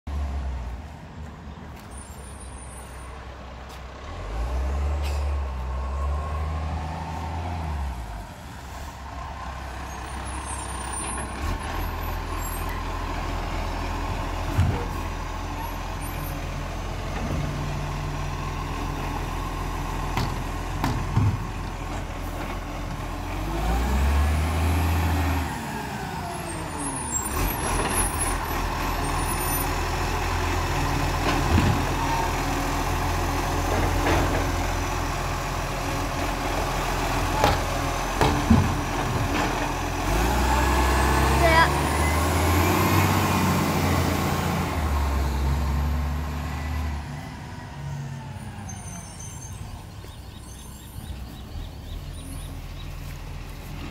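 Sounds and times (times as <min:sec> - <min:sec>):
garbage truck diesel engine: 0:00.1 - 0:53.9.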